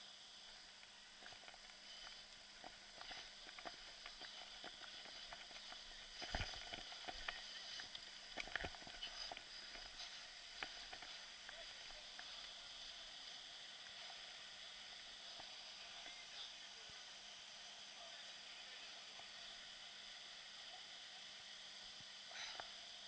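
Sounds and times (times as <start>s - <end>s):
quiet water sounds: 0.0s - 23.0s.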